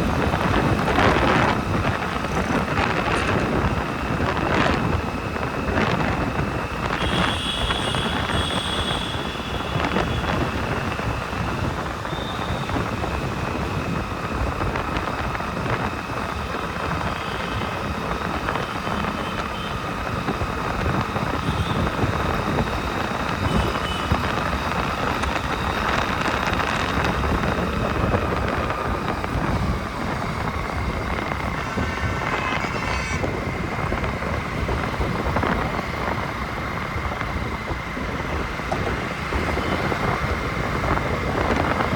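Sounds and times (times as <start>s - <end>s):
road and traffic rumble: 0.0s - 41.9s
wind rushing over microphone: 0.0s - 41.9s.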